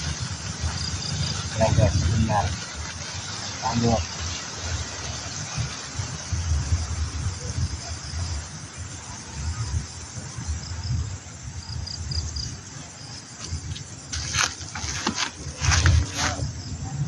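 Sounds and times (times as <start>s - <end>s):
insects chirping: 0.0s - 17.0s
wind gusts on microphone: 0.0s - 17.0s.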